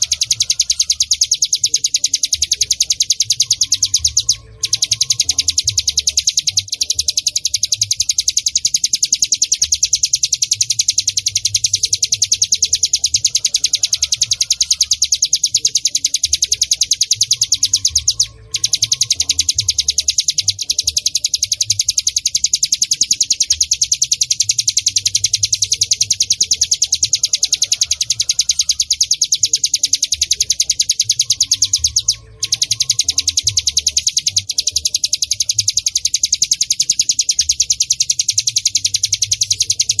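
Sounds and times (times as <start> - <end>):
bird singing high-pitched trill: 0.0 - 40.0.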